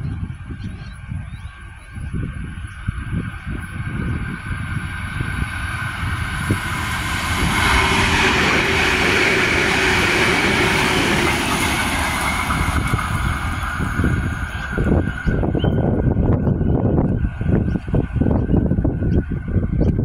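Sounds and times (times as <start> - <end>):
electric train passing: 1.5 - 20.0.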